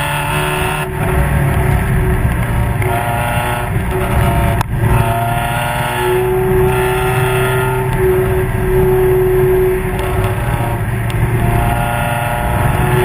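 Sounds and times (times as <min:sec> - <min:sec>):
high whine: 0:00.0 - 0:13.0
race car engine running hard: 0:00.0 - 0:13.0
wind and road noise: 0:00.0 - 0:13.0.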